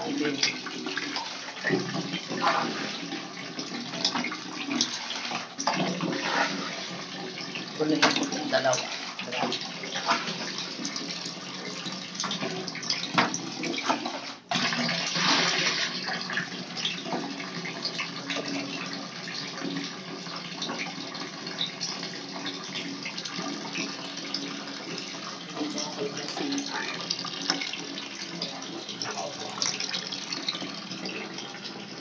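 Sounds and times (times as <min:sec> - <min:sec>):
tap water filling container: 0:00.0 - 0:32.0.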